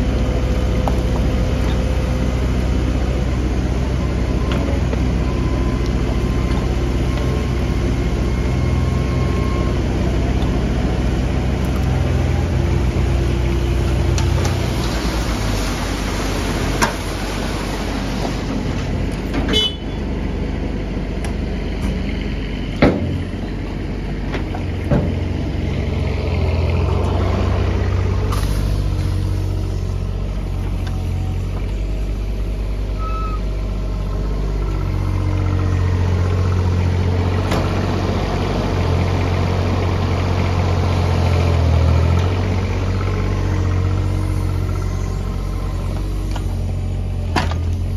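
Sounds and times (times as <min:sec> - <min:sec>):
mini excavator engine working: 0:00.0 - 0:47.9
truck engine idling: 0:00.0 - 0:47.9.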